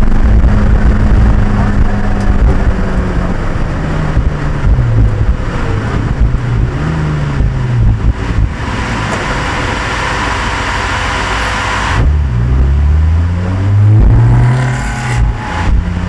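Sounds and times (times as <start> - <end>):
loud rushing noise: 0.0 - 16.0
race car engine: 0.0 - 16.0.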